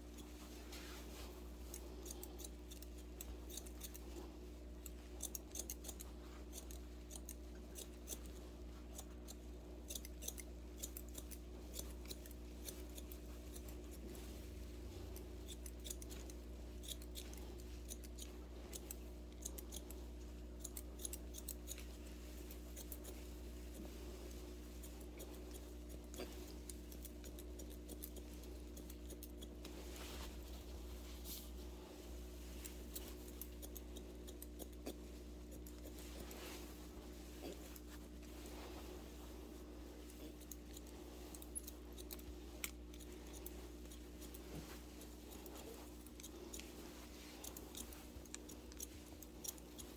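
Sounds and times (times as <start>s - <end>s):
low steady hum: 0.0s - 49.9s
shears snipping hair: 0.0s - 49.9s.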